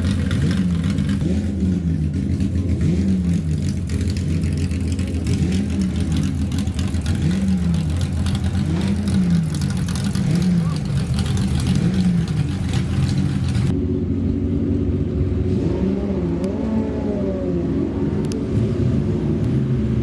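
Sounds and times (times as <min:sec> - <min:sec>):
racing car engine revving: 0:00.0 - 0:20.0.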